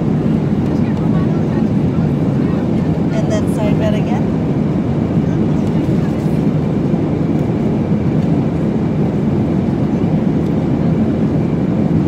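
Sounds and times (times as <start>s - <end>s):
airplane engine drone: 0.0s - 12.0s.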